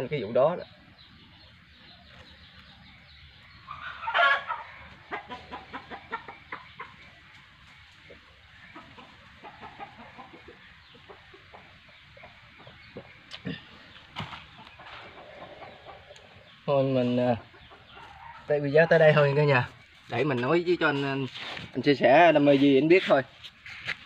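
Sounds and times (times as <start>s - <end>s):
chickens clucking: 0.1s - 21.5s.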